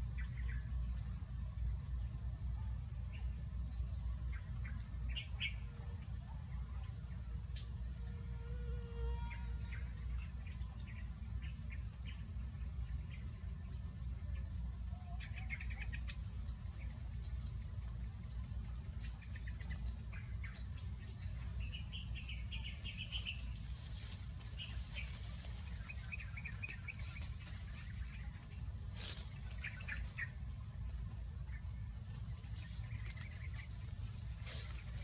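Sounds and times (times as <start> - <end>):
small songbirds twittering: 0.0 - 7.9, 9.3 - 35.0
low hum: 0.0 - 35.0.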